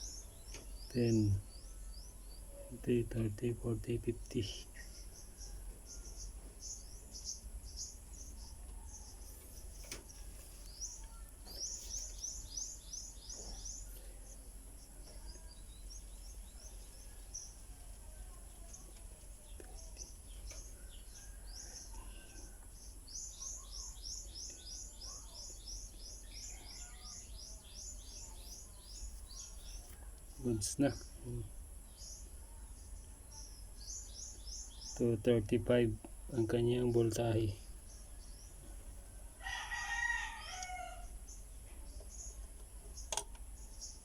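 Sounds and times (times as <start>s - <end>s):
bird chirping: 0.0s - 39.2s, 40.0s - 44.0s.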